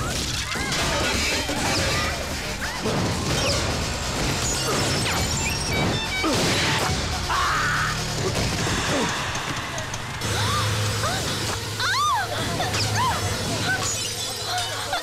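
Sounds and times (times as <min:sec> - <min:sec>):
crashing and hitting effects: 0:00.0 - 0:14.3
action film music: 0:00.0 - 0:15.0.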